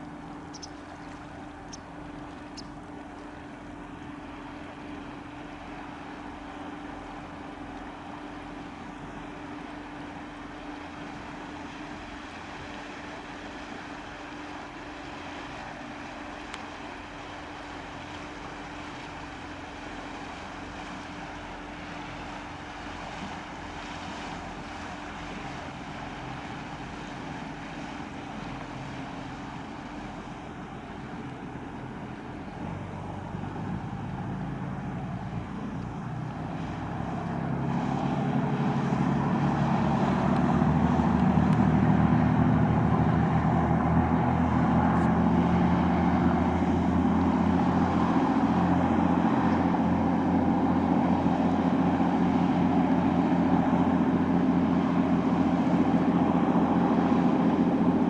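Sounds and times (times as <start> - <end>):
boat engines running: 0.0 - 58.0
water rushing along hull: 0.0 - 58.0.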